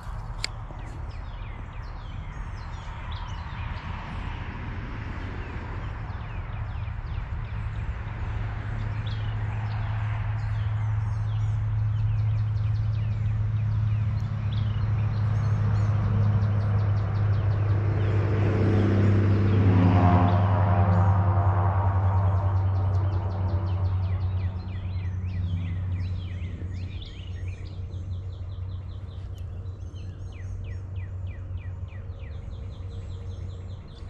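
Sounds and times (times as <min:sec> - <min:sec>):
songbirds chirping and singing: 0:00.0 - 0:04.4, 0:05.4 - 0:19.7, 0:20.3 - 0:34.0
low engine drone: 0:00.0 - 0:34.0.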